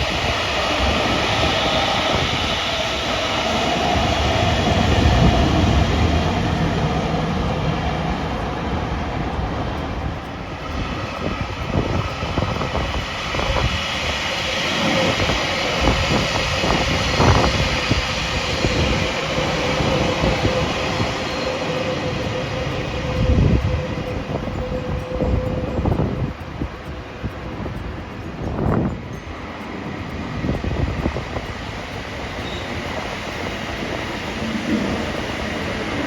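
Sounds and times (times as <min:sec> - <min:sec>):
sharp train clacks: 0:00.0 - 0:36.0
train rumbling by: 0:00.0 - 0:36.0.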